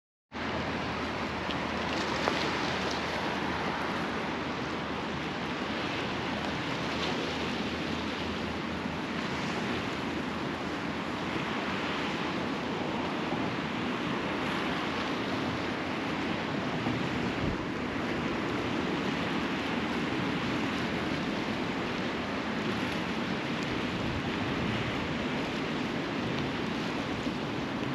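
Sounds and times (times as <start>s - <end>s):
sea waves washing ashore: 0.4s - 27.9s.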